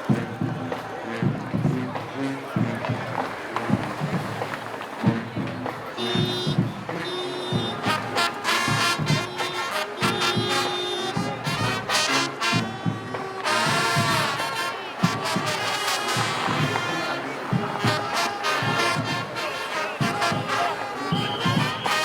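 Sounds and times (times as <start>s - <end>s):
swing brass music: 0.0s - 22.0s.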